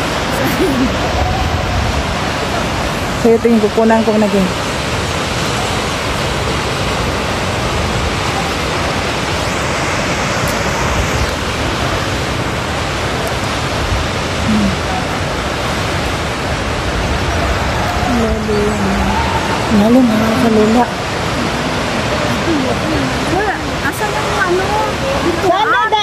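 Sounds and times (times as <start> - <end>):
wind rumble on microphone: 0.0 - 25.5
waterfall rushing: 0.0 - 26.0.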